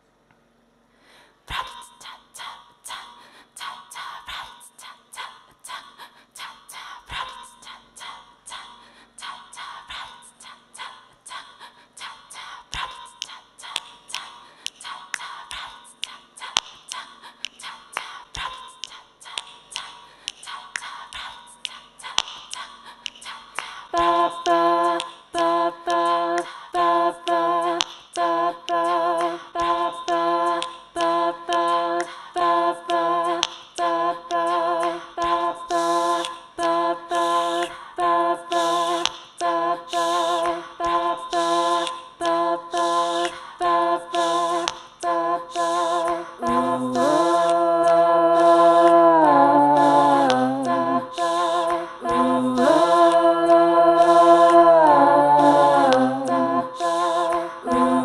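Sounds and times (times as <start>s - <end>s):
layered a cappella female singing: 1.4s - 58.0s.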